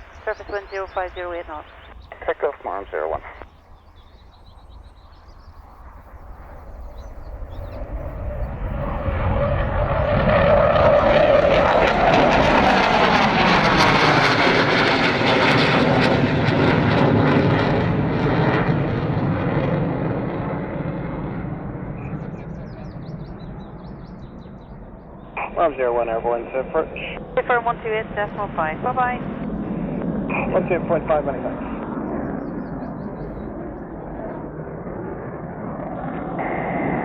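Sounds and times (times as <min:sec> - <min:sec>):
jet engines roaring past: 0:00.0 - 0:37.0.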